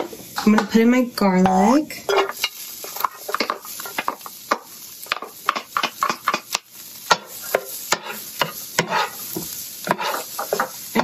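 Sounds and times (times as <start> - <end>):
wooden spatula knocking and scraping: 1.4 - 11.0.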